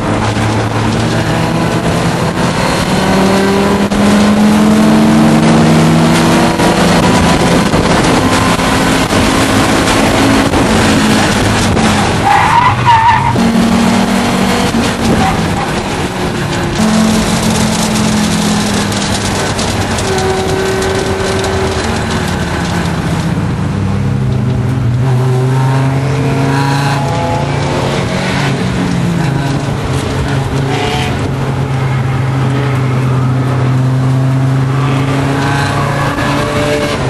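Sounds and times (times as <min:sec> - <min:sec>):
race car engine at high revs: 0:00.0 - 0:37.0
road noise: 0:00.0 - 0:37.0
wind noise: 0:00.0 - 0:37.0.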